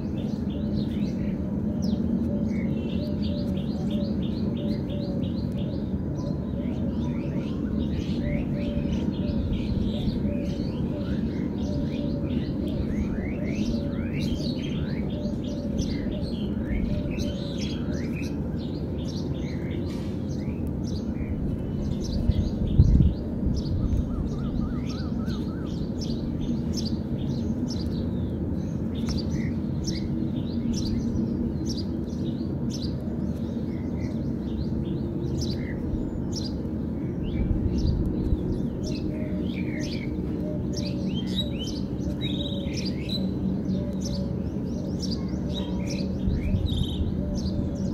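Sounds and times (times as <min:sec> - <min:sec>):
low background rumble: 0:00.0 - 0:47.9
small birds chirping: 0:00.0 - 0:47.9.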